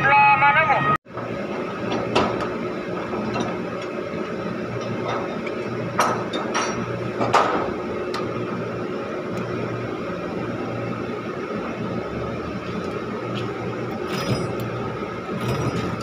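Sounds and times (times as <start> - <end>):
steady machinery hum: 0.1 - 16.0.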